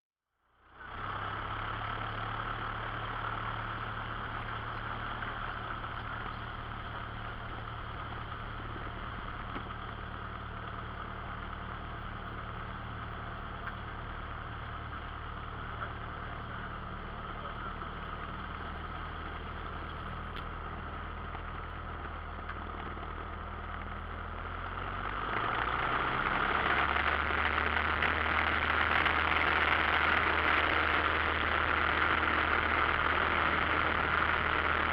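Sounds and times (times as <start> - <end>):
small plane engine and propeller: 0.6 - 34.9.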